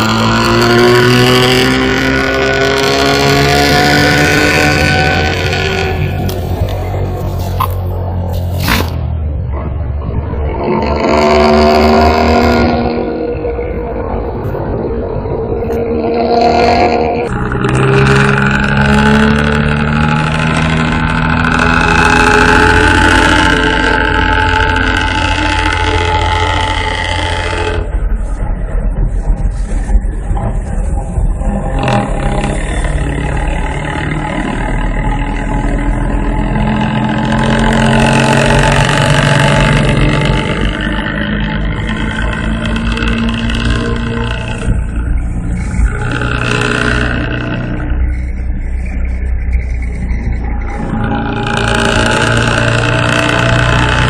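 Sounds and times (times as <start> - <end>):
bus engine droning: 0.0 - 54.0.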